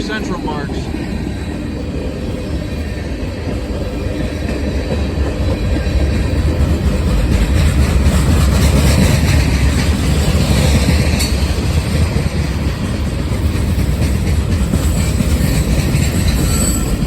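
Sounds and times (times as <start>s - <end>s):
freight train cars rolling on rails: 0.0s - 17.0s.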